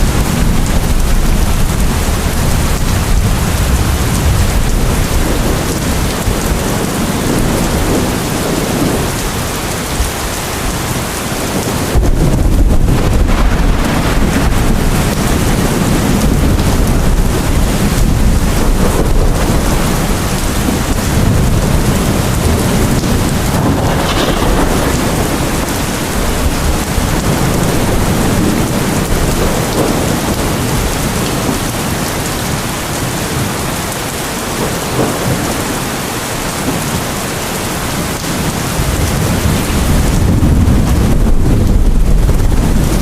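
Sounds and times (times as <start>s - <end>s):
heavy rain falling: 0.0s - 43.0s
rolling thunder rumble: 0.0s - 43.0s.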